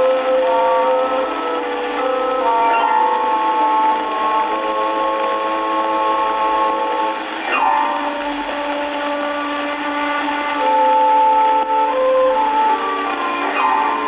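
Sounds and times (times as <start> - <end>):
sustained chord music: 0.0 - 14.0.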